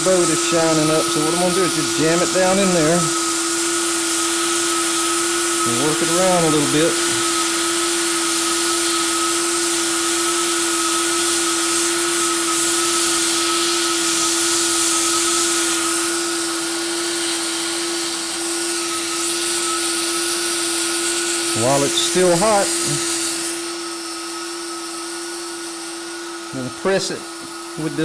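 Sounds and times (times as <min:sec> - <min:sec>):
heat gun welder blower hiss: 0:00.0 - 0:28.0.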